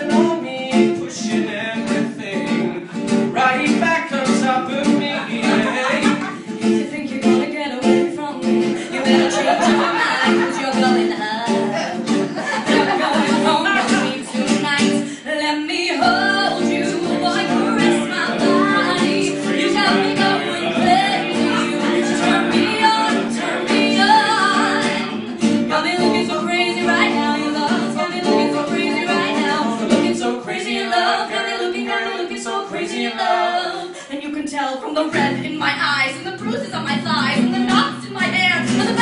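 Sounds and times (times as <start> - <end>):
woman singing: 0.0 - 2.5, 4.1 - 39.0
acoustic guitar strumming: 0.0 - 34.0, 35.0 - 39.0.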